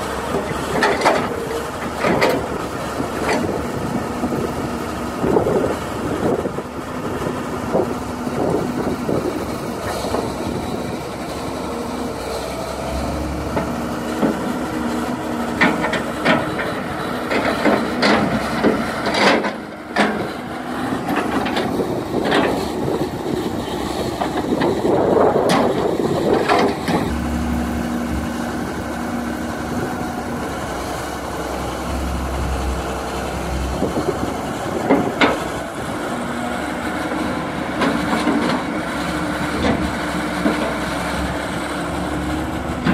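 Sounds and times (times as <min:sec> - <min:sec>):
excavator diesel engine and hydraulics: 0:00.0 - 0:42.9.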